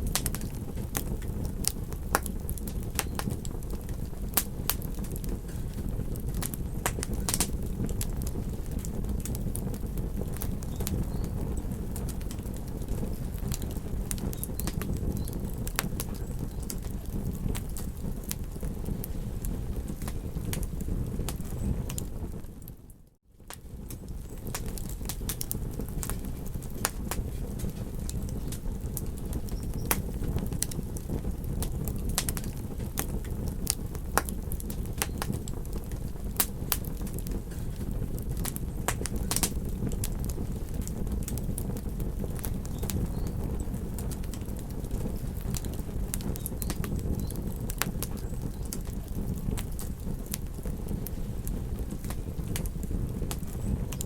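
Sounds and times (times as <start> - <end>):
campfire crackling: 0.0 - 54.0
fire popping: 0.0 - 54.0
low rush of fire: 0.0 - 54.0.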